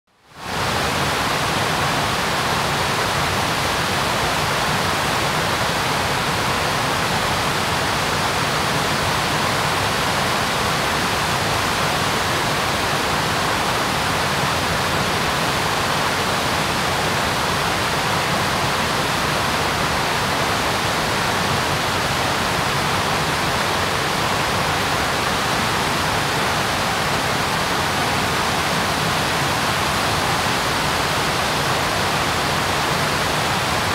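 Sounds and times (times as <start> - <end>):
waterfall roaring: 0.4 - 33.9.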